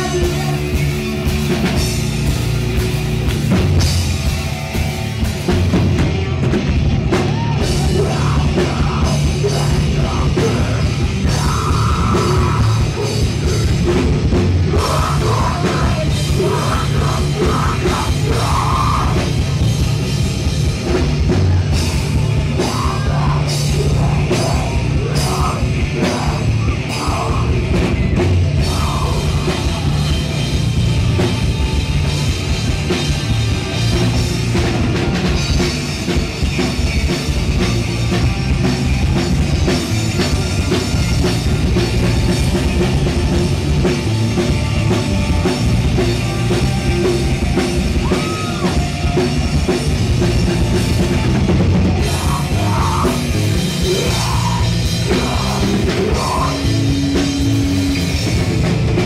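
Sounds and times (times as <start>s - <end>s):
heavy metal band playing: 0.0s - 59.0s.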